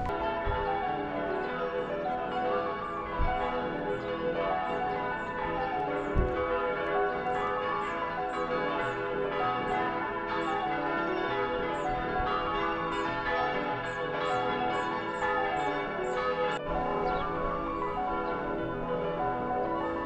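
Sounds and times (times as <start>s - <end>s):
bells ringing: 0.0s - 20.0s.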